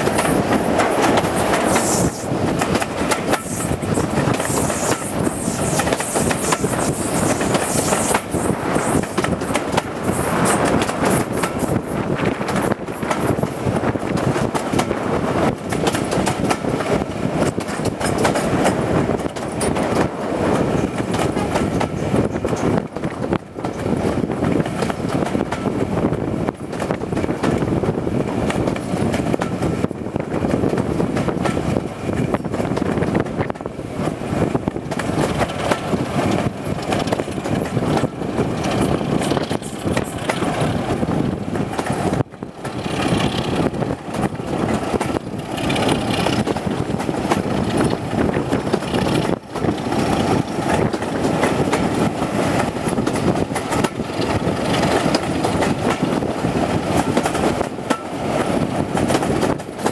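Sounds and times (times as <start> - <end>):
rushing air: 0.0 - 23.0, 33.8 - 59.6
train coaches clattering on track: 0.0 - 59.9.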